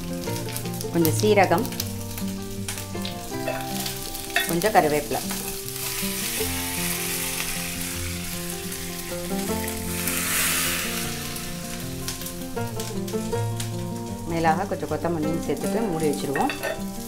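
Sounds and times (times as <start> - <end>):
seeds sizzling in hot oil: 0.0 - 17.0
soft background music: 0.0 - 17.0.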